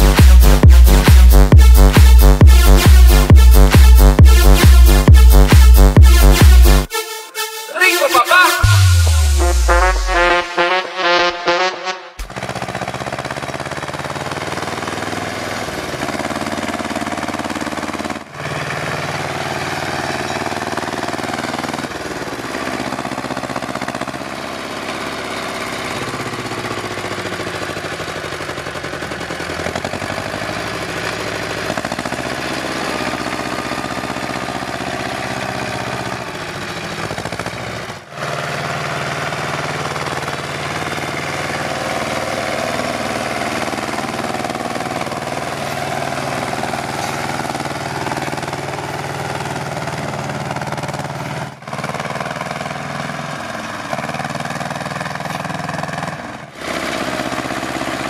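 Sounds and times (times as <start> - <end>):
tractor diesel engine under load: 0.0 - 6.9, 12.2 - 58.0.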